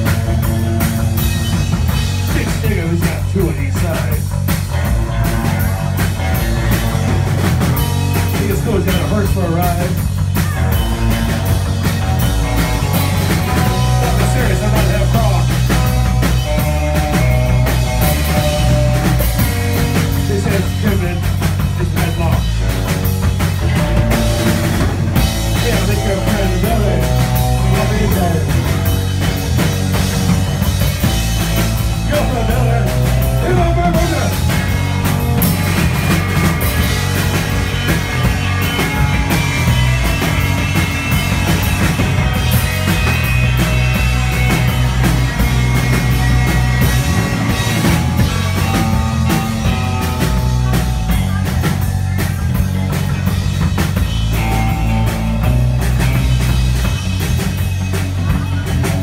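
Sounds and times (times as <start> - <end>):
bass guitar: 0.0 - 59.0
distorted electric guitar: 0.0 - 59.0
drum kit: 0.0 - 59.0.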